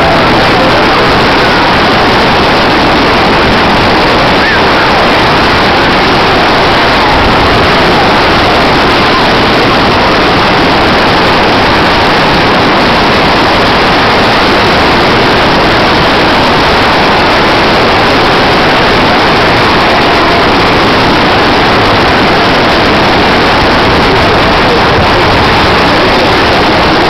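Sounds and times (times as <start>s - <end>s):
loud steady rushing noise: 0.0s - 27.0s.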